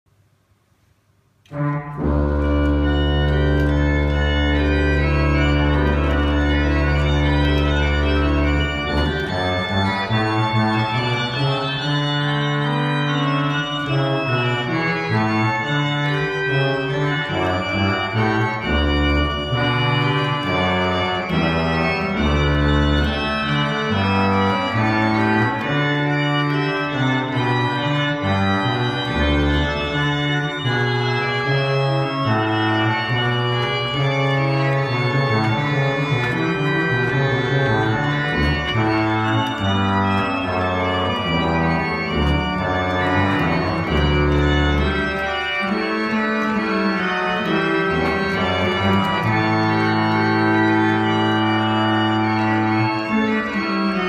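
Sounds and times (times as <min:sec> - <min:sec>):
pipe organ playing: 0:01.4 - 0:54.0.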